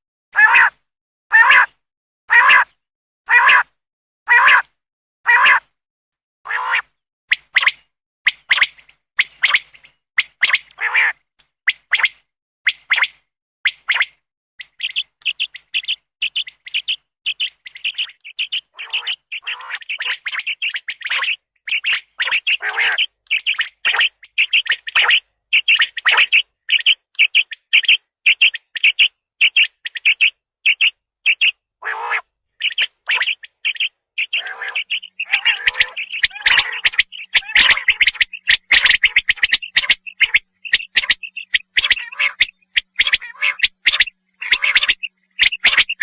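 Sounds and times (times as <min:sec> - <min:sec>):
quail calls: 0:00.4 - 0:01.7, 0:02.3 - 0:03.7, 0:04.3 - 0:04.7, 0:05.3 - 0:05.7, 0:06.5 - 0:12.1, 0:13.7 - 0:46.0.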